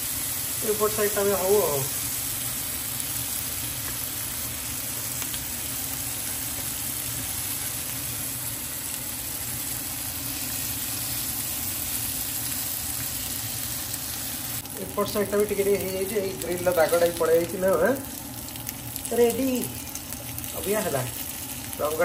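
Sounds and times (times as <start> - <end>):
food sizzling on a grill: 0.0 - 22.0.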